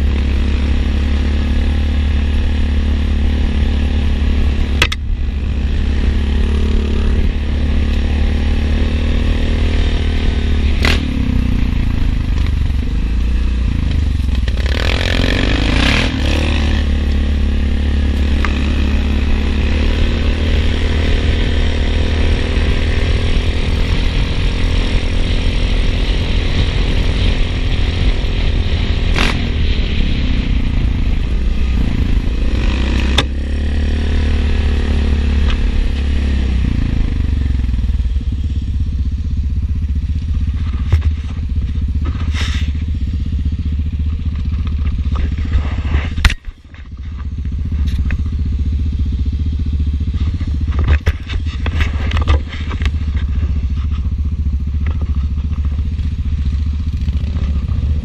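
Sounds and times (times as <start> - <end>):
atv engine rumbling: 0.0 - 58.0.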